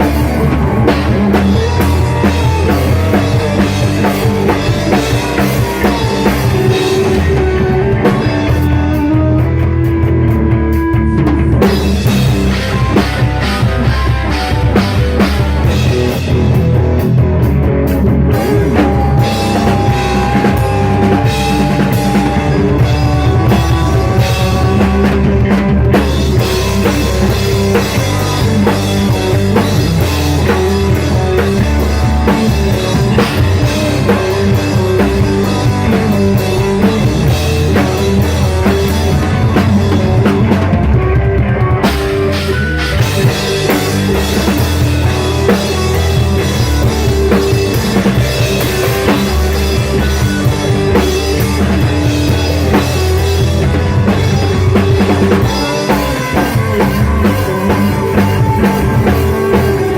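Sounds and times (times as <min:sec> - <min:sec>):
rock music with drums bass and guitar: 0:00.0 - 0:59.9.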